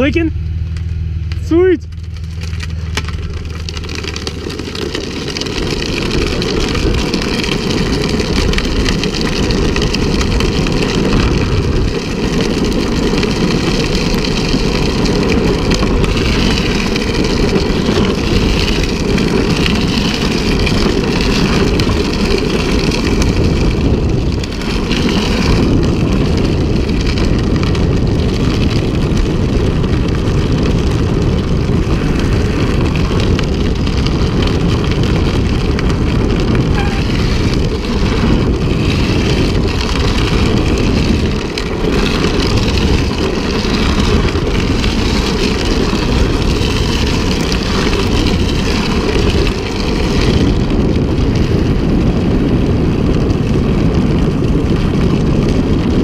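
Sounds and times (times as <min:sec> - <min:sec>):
wheels rumbling on road: 0:00.0 - 0:56.0
wind on microphone: 0:00.0 - 0:56.0.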